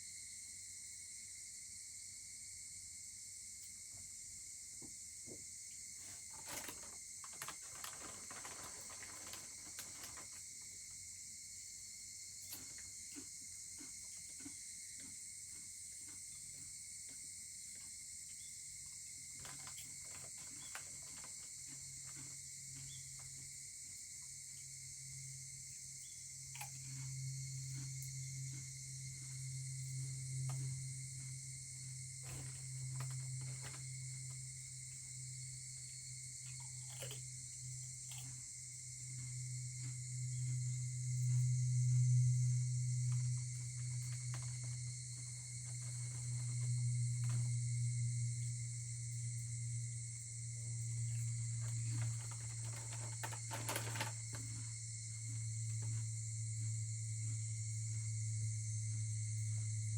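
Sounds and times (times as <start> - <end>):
insect chorus chirring: 0.0 - 59.9
low steady hum: 11.4 - 59.9.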